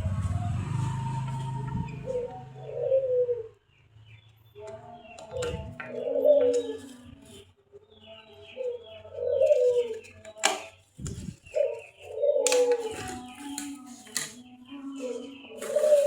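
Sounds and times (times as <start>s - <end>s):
bird cooing: 0.3s - 3.6s, 5.0s - 7.4s, 8.5s - 16.0s.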